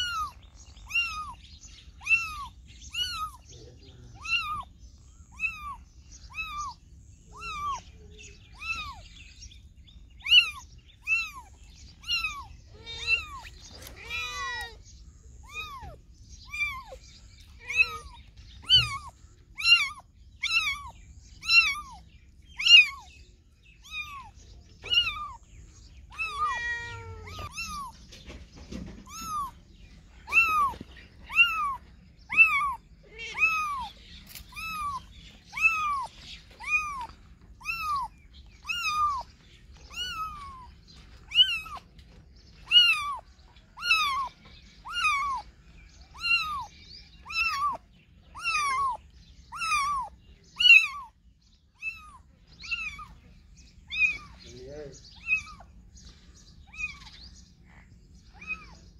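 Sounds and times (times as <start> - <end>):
kitten meowing: 0.0 - 1.4, 2.0 - 3.5, 4.1 - 9.1, 10.2 - 14.8, 15.4 - 22.0, 22.6 - 23.1, 23.8 - 25.5, 26.1 - 28.2, 29.0 - 41.9, 42.6 - 43.2, 43.8 - 45.5, 46.1 - 51.2, 51.8 - 54.4, 55.2 - 55.7, 56.6 - 57.2, 58.3 - 58.8.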